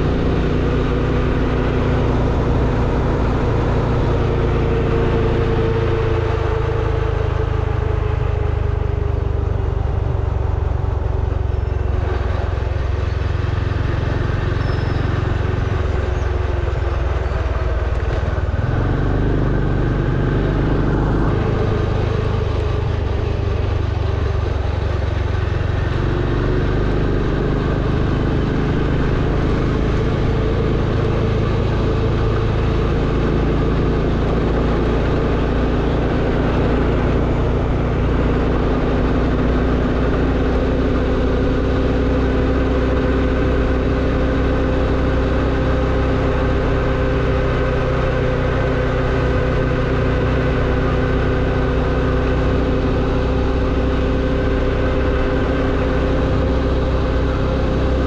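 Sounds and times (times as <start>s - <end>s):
motorbike engine running: 0.0s - 58.0s.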